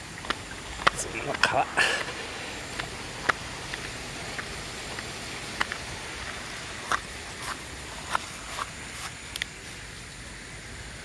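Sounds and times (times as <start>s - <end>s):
footsteps on pavement and grass: 0.0s - 10.1s
faint hiss: 0.0s - 11.0s.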